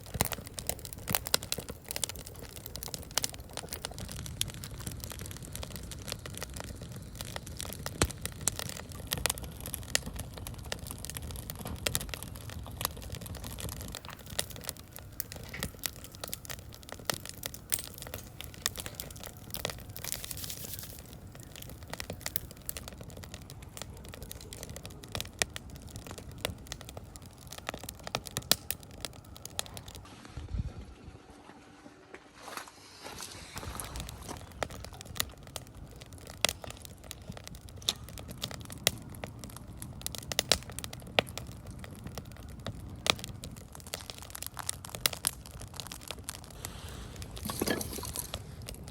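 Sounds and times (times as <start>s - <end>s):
firewood crackling and popping: 0.0s - 30.3s, 32.3s - 48.9s
low rumble of flames: 0.0s - 48.9s.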